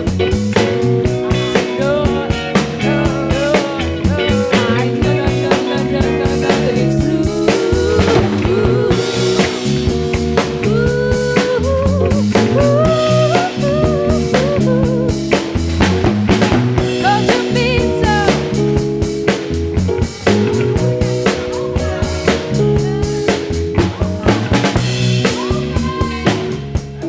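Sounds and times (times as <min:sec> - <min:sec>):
rock band playing live: 0:00.0 - 0:27.0.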